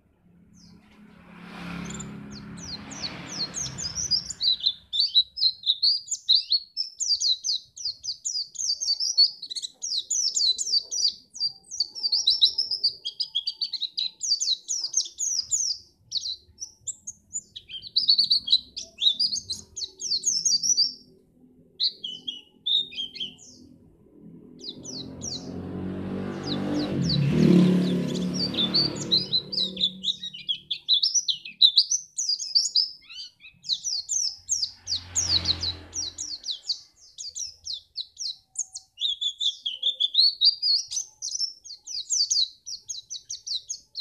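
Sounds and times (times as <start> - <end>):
bird twittering song: 0.0 - 1.0, 1.6 - 44.0.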